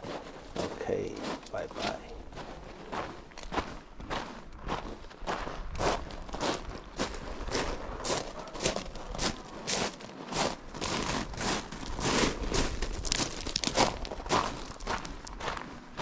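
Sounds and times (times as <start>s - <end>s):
footsteps crunching on gravel: 0.0s - 16.0s.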